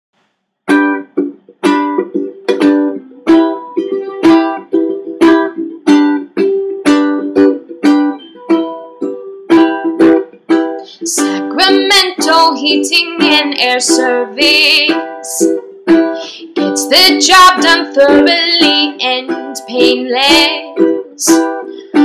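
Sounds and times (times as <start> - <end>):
strummed string instrument chords: 0.7 - 22.0.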